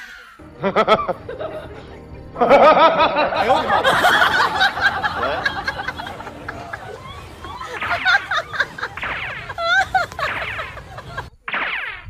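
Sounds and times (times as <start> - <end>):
background music: 0.0 - 10.0
people laughing: 0.0 - 11.4.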